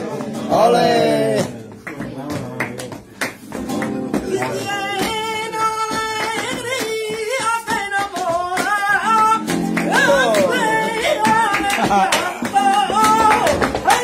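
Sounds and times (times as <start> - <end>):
flamenco guitar: 0.0 - 14.0
man singing flamenco: 0.0 - 14.0
rhythmic hand clapping: 0.0 - 14.0.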